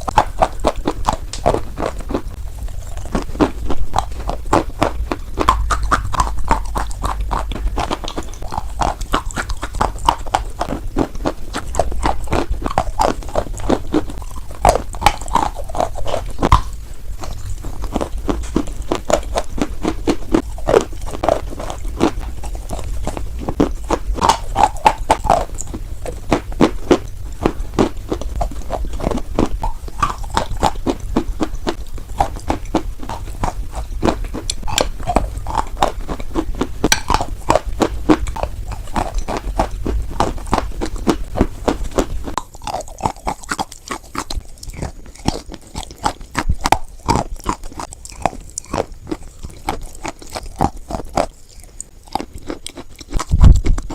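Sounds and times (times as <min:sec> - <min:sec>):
chalk crunching from chewing: 0:00.0 - 0:53.9
low background hum: 0:00.0 - 0:53.9.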